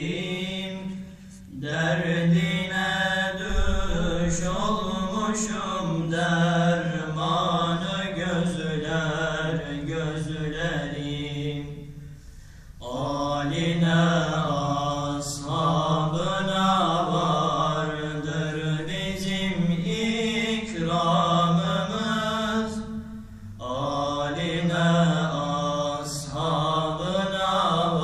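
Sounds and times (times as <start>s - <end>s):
young men singing a hymn unaccompanied: 0.0s - 28.0s.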